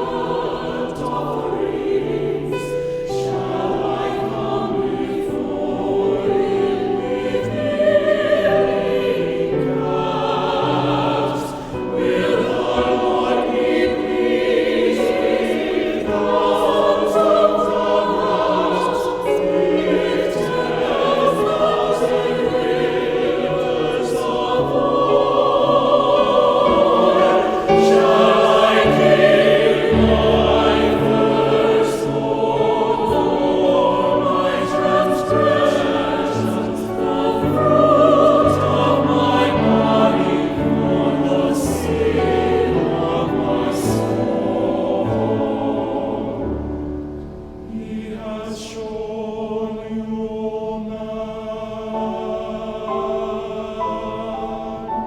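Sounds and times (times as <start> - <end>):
choir singing in parts: 0.0 - 55.0.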